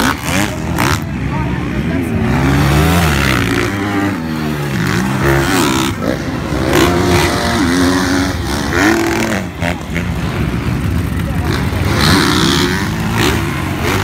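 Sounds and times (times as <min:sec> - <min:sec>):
motocross engines revving: 0:00.0 - 0:14.0.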